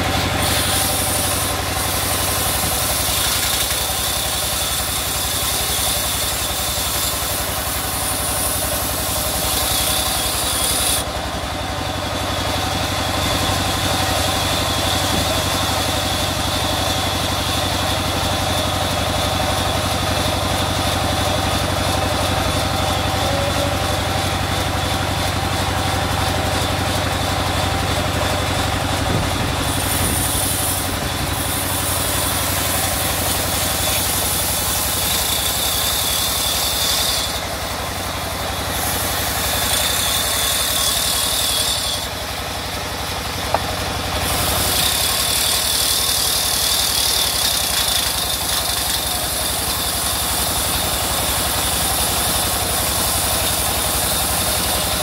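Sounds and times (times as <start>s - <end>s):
band saw cutting log hiss: 0.0s - 11.3s, 12.9s - 42.6s, 43.4s - 55.0s.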